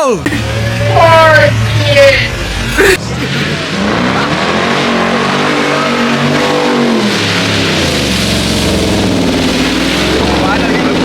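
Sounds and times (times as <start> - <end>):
car engine revving hard: 0.3 - 11.0.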